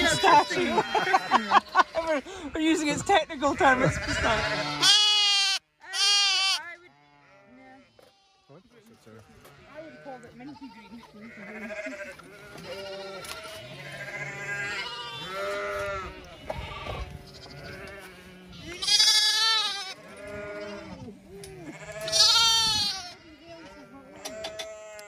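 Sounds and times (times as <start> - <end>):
lambs bleating: 0.0 - 8.6, 9.2 - 25.0.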